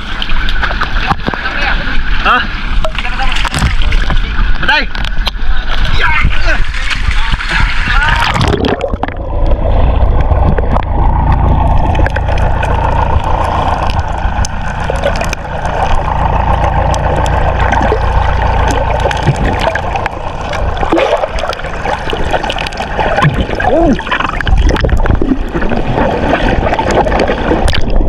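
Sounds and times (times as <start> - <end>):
boat motor rumbling: 0.0 - 28.0
water noise: 0.0 - 28.0.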